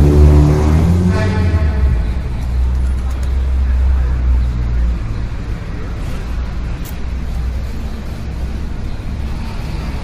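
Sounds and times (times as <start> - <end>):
rumble of passing vehicles: 0.0 - 10.0
street noise: 0.0 - 10.0.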